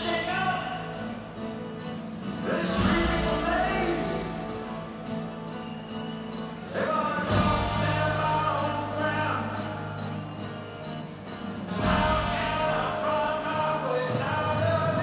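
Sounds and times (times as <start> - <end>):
live rock band through pa: 0.0 - 15.0.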